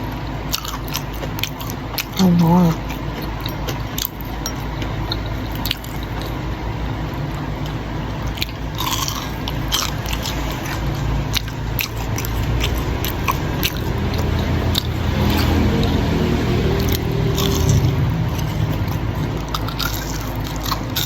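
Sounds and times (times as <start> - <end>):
person chewing: 0.0 - 6.5, 7.1 - 21.0
low steady hum: 0.0 - 21.0.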